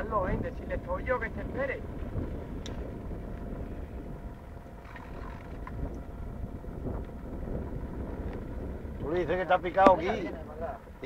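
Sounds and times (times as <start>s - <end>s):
faint steady hum: 0.0s - 11.0s
wind on microphone: 0.0s - 11.0s.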